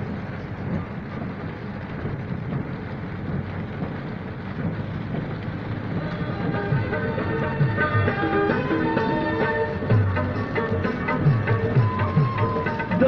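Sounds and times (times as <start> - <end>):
low rumble: 0.0 - 13.0
steady rain: 0.0 - 13.0.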